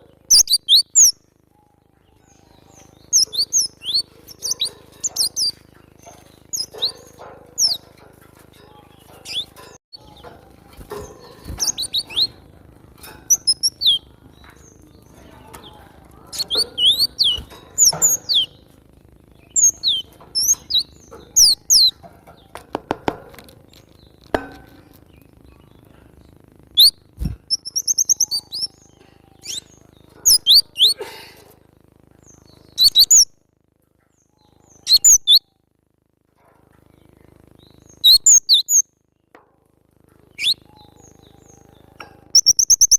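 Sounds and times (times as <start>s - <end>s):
bird chirping: 0.0s - 31.0s, 32.2s - 33.3s, 34.0s - 35.7s, 36.9s - 39.3s, 40.2s - 42.9s.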